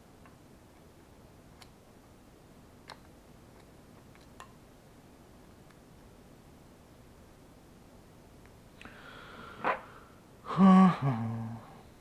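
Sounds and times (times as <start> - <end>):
low room hiss: 0.0 - 12.0.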